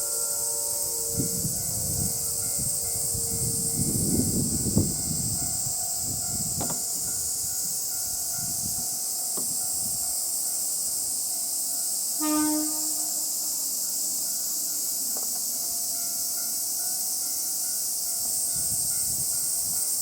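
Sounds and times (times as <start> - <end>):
diesel railcar rumbling: 0.0 - 20.0
high insect drone: 0.0 - 20.0.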